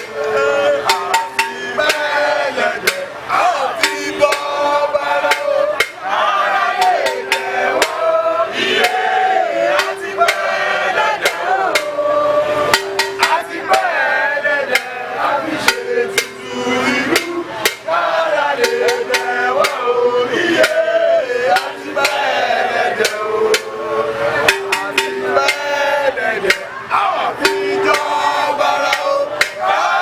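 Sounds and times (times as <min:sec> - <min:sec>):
group chanting and singing: 0:00.0 - 0:30.0
sharp percussive knocks: 0:00.8 - 0:23.8, 0:24.4 - 0:26.8, 0:27.4 - 0:30.0.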